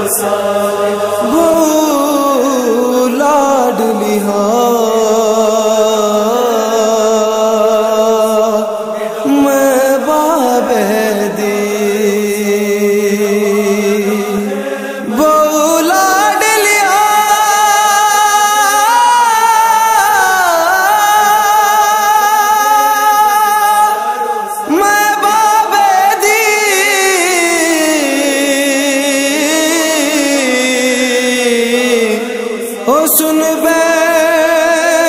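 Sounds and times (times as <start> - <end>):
man singing a mourning lament: 0.0 - 35.0.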